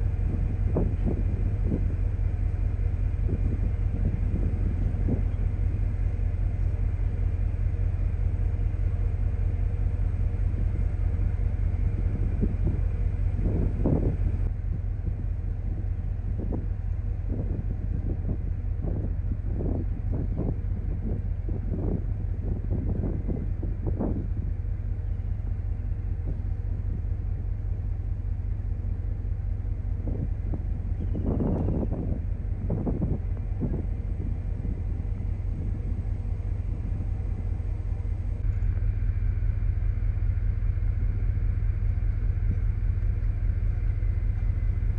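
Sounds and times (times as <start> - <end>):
cruise ship low rumble: 0.0 - 44.9
wind buffeting microphone: 0.0 - 44.9.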